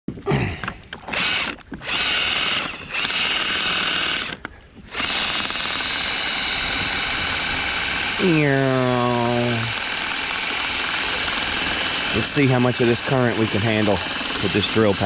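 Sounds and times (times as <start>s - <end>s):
power drill motor running: 1.0s - 15.0s.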